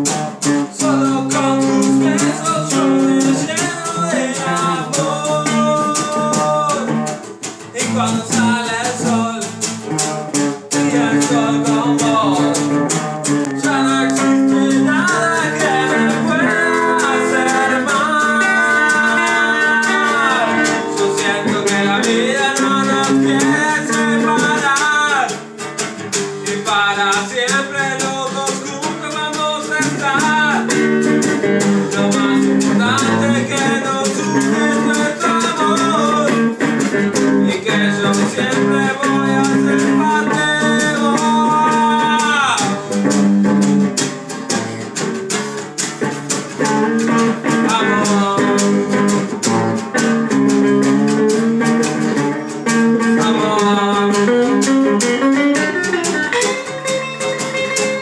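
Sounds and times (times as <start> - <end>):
electric guitar lead with bends: 0.0 - 26.5, 29.7 - 58.0
classical guitar: 0.0 - 58.0.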